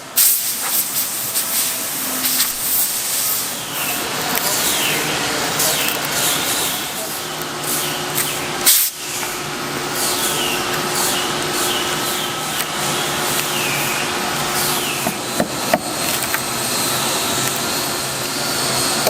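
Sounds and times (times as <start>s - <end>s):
loud air blast: 0.0s - 16.0s
strong hiss: 0.0s - 18.6s
workshop machinery and air tools: 0.0s - 19.0s.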